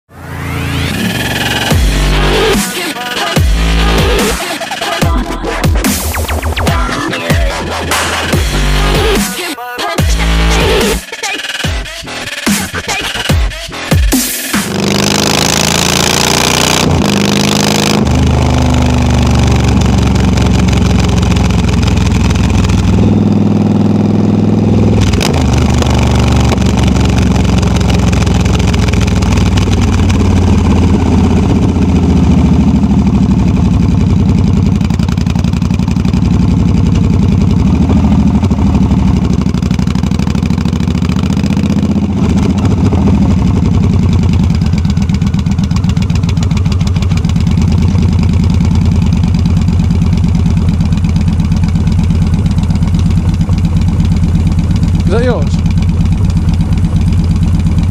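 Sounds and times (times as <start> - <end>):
motorcycle engine running: 0.1 - 9.4, 10.0 - 57.9.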